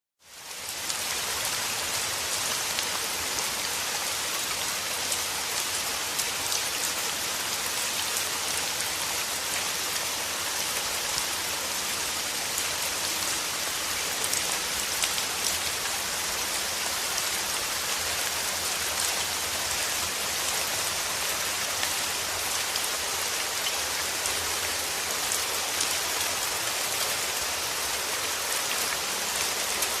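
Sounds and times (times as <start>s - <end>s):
steady rain falling: 0.2s - 30.0s.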